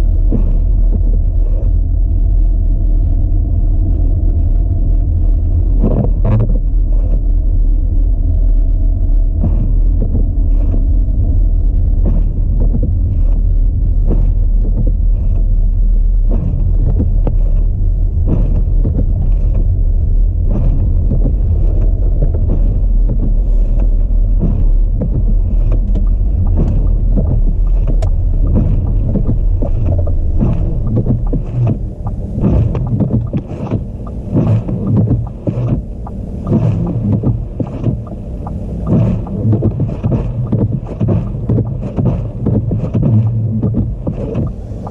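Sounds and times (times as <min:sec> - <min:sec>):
car road rumble: 0:00.0 - 0:44.9
wind buffeting microphone: 0:00.0 - 0:44.9.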